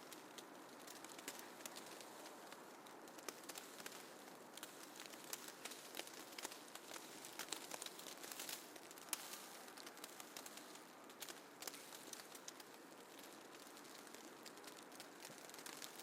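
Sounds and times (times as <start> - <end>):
snow ticking and pattering: 0.0 - 16.0
soft steady hiss: 0.0 - 16.0.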